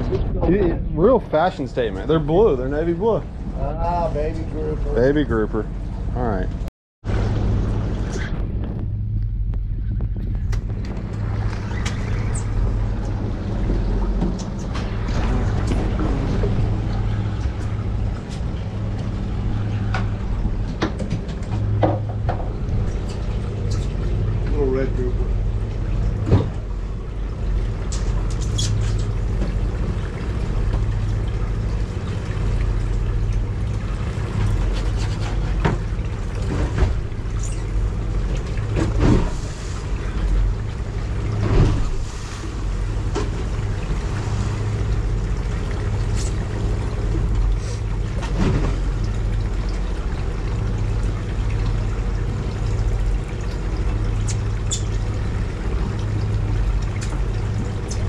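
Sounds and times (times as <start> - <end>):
boat engine idling: 0.0 - 58.0
water sloshing against hull: 0.0 - 58.0.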